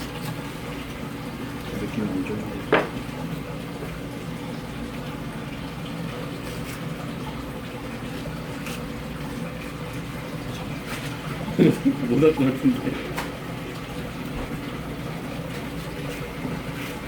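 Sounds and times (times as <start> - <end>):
low hum with watery hiss: 0.0 - 17.0.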